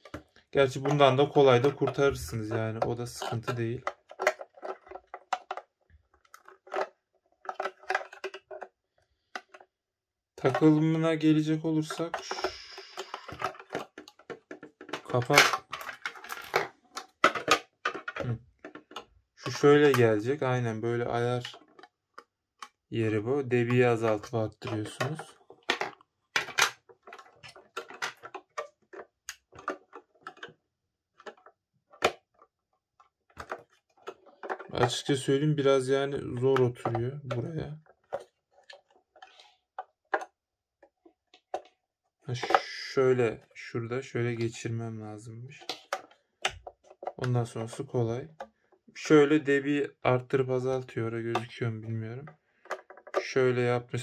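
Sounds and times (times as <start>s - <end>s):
plastic parts clicking and knocking: 0.0s - 9.8s, 10.4s - 54.0s.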